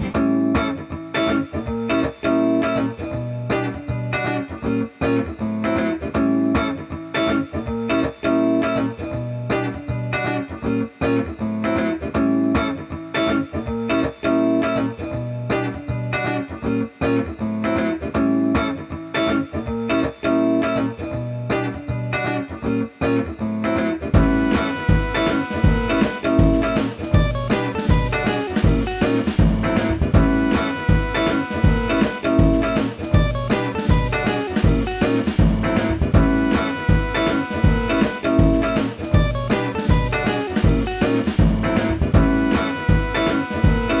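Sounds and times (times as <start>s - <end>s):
plucked guitar music: 0.0s - 44.0s.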